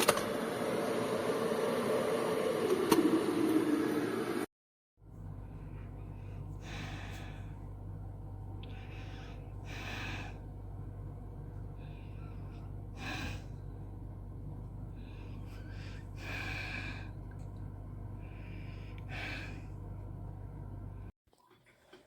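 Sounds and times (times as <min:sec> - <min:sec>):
steady low hum: 0:00.0 - 0:21.1.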